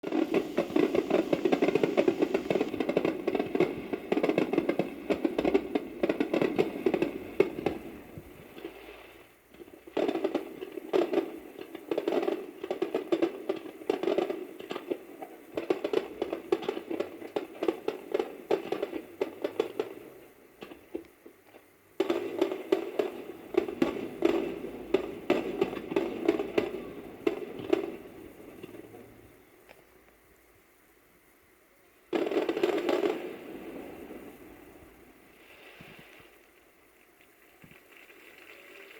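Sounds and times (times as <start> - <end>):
fireworks crackling: 0.0 - 38.9.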